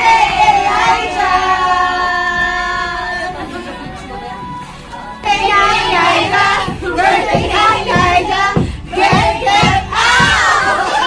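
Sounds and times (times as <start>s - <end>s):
steady beat: 0.0s - 11.0s
voices singing together: 0.0s - 11.0s.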